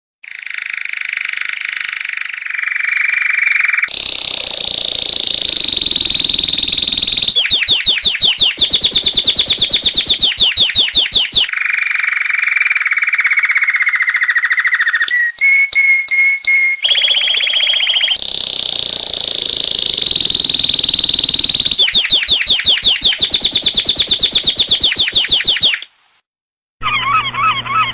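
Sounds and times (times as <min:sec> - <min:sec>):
songbird singing rapid trills: 0:00.2 - 0:25.8.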